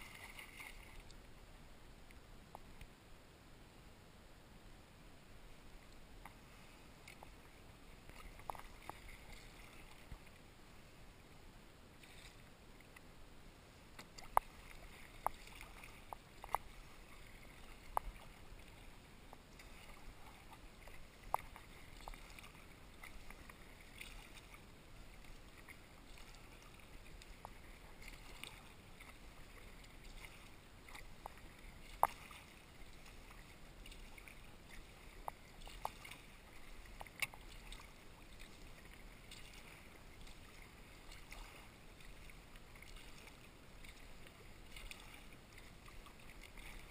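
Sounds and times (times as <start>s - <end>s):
paddle splashing in water: 0.0s - 1.3s, 6.2s - 10.4s, 11.9s - 13.0s, 13.8s - 46.9s.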